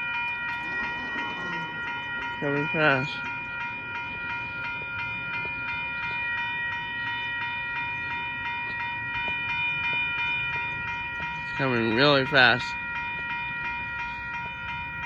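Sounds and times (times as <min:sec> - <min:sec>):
crossing warning bell ringing: 0:00.0 - 0:15.0
train rumble: 0:00.0 - 0:15.0.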